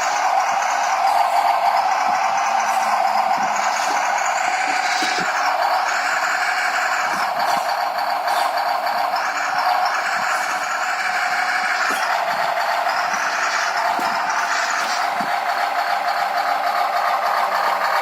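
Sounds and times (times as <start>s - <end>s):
simulated engine through small speaker: 0.0s - 18.0s.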